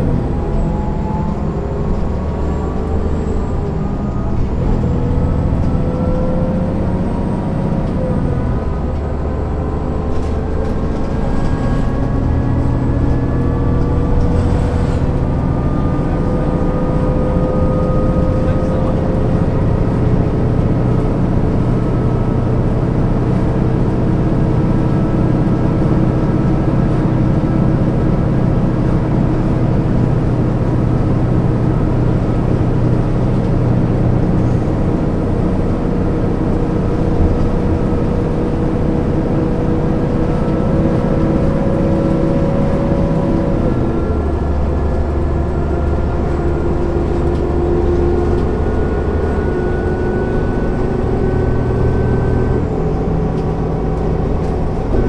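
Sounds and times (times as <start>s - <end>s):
bus engine droning with whine: 0.0s - 55.0s
deep engine rumble: 0.0s - 55.0s.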